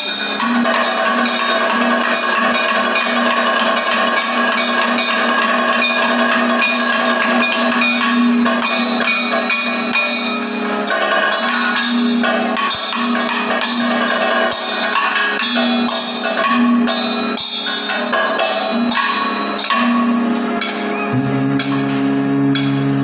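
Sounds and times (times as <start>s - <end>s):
cymbals and gong ringing: 0.0s - 23.0s
drums struck in steady beat: 0.0s - 23.0s.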